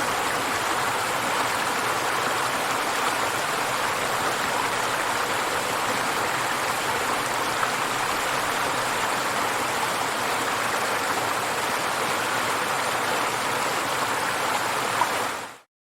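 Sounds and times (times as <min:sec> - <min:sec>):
river water splashing over rocks: 0:00.0 - 0:15.6.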